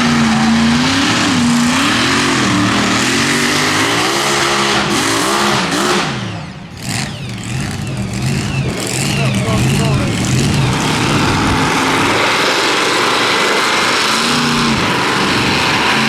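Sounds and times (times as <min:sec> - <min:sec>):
tractor engine revving: 0:00.0 - 0:16.0.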